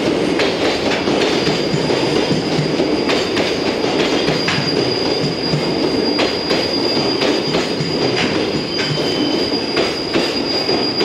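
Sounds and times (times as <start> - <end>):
freight train rolling past: 0.0 - 11.0
steady high squeal: 1.2 - 11.0.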